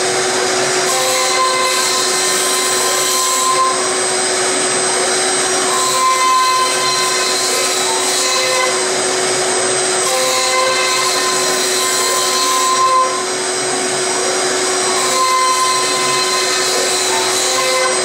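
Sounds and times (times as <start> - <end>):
end mill cutting wood: 0.0 - 18.0
milling machine spindle whine: 0.0 - 18.0.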